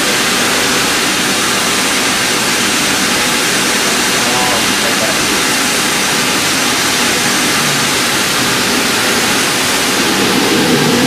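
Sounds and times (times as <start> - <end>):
machinery rushing hiss: 0.0 - 11.0.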